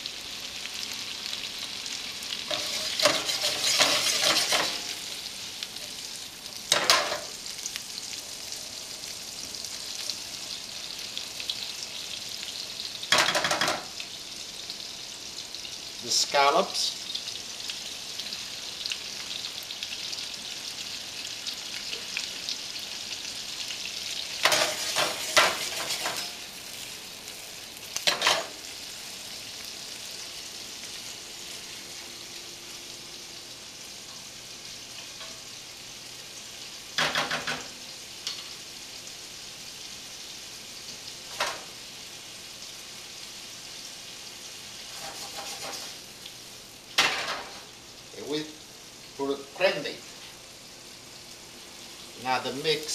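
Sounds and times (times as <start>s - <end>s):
seafood sizzling in a skillet: 0.0s - 52.9s.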